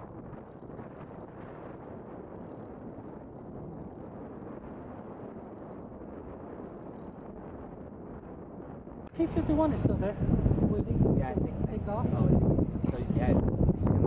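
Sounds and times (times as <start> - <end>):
propeller plane engine running: 0.0 - 14.0.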